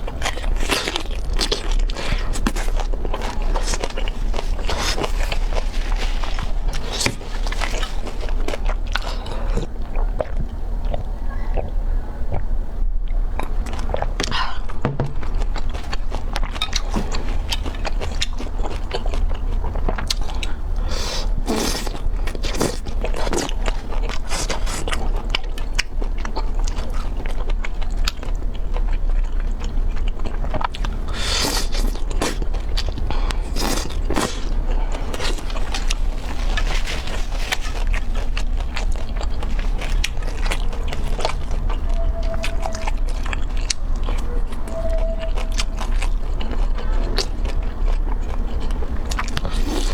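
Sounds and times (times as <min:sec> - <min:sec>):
person chewing crunchy food: 0:00.0 - 0:11.7, 0:13.1 - 0:49.9
steady low hum: 0:00.0 - 0:49.9.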